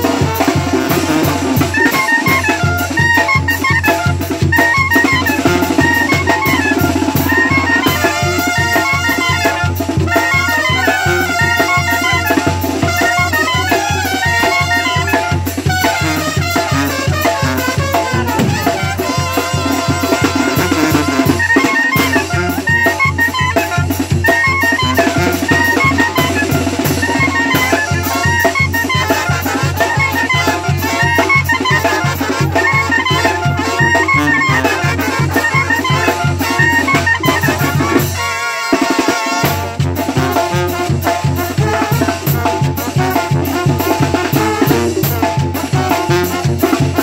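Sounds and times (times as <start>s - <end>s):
bass drum beat: 0.0s - 38.2s, 39.4s - 47.0s
brass band playing dance tune: 0.0s - 47.0s.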